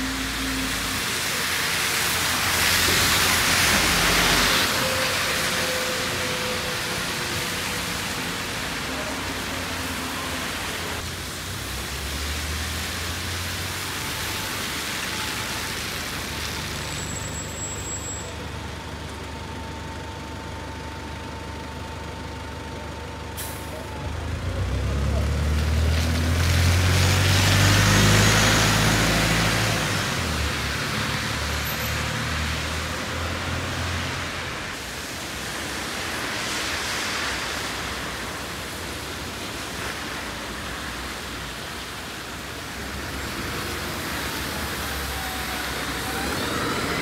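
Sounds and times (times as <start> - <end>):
traffic engines humming: 0.0 - 47.0.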